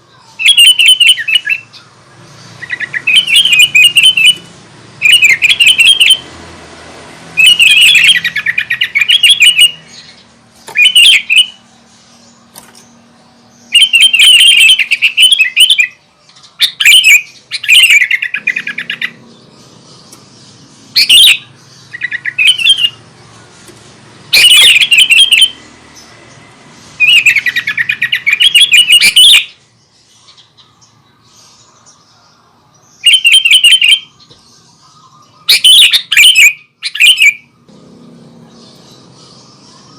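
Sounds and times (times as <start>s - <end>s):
bird singing warbling phrases: 0.0s - 6.6s, 7.2s - 39.9s.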